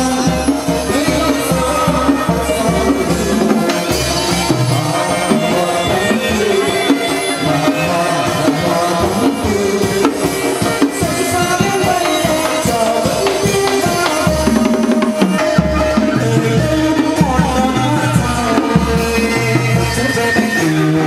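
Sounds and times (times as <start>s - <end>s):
drum and small percussion beat: 0.0s - 21.0s
heavy low drum: 0.0s - 21.0s.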